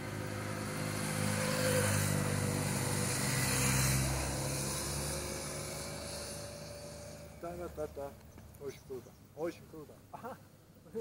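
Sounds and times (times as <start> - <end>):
motorcycle passing: 0.0 - 8.8.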